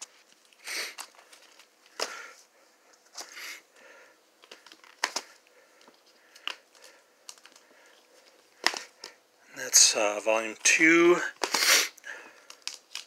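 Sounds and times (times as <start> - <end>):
plastic sleeves rustling: 0.0 - 13.0.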